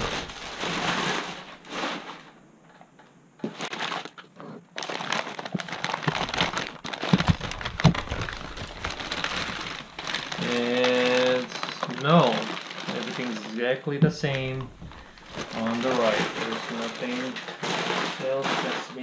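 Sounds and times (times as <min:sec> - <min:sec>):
paper crinkling and rustling: 0:00.0 - 0:02.3, 0:03.4 - 0:19.0.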